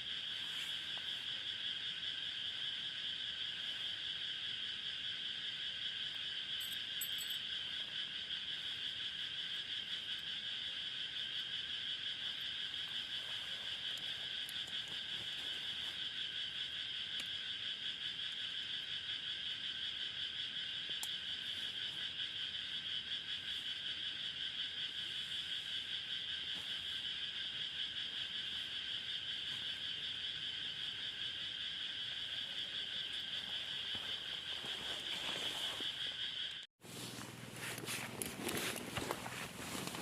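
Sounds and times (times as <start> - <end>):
frogs or insects trilling: 0.0 - 40.0.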